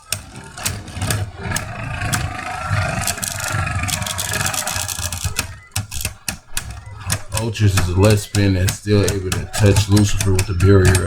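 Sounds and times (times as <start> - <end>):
spinning tops clicking together: 0.0 - 11.0
spinning tops whirring: 0.0 - 11.0.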